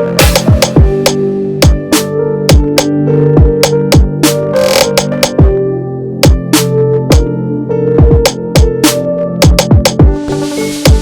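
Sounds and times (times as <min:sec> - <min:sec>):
electronic music with drum machine: 0:00.0 - 0:05.6, 0:06.2 - 0:07.3, 0:08.0 - 0:11.0.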